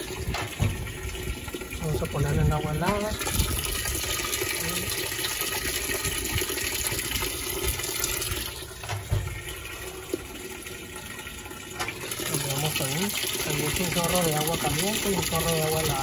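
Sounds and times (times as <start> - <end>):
water pouring into washer drum: 0.0 - 16.0.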